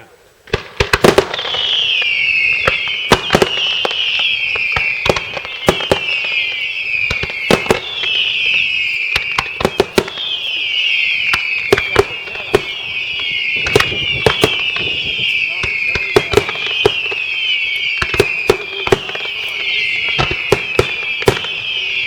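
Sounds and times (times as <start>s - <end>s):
shrill fireworks whistling: 0.0s - 22.0s
fireworks bangs: 0.4s - 22.0s.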